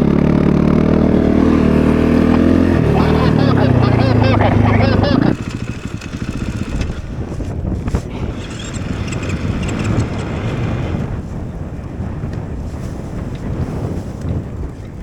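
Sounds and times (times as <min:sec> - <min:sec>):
snowbike engine running: 0:00.0 - 0:15.0
wind buffeting microphone: 0:01.0 - 0:15.0.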